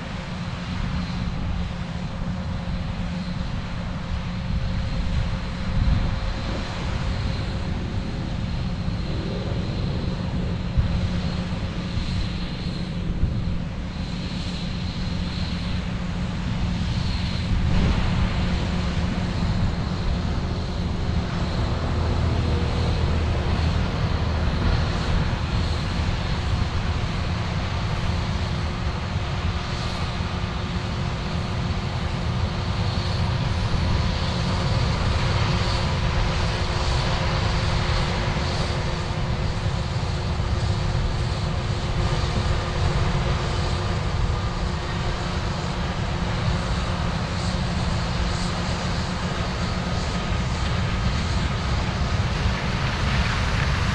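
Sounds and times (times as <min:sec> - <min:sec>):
combine engine rumble: 0:00.0 - 0:53.9
faint steady whine: 0:00.0 - 0:53.9.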